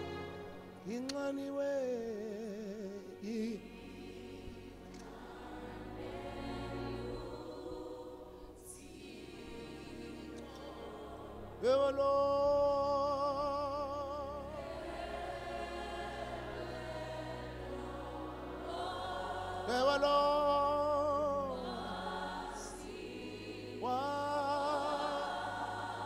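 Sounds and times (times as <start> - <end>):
congregation singing a hymn: 0.0 - 26.0
lead voice holding long notes: 0.0 - 26.0.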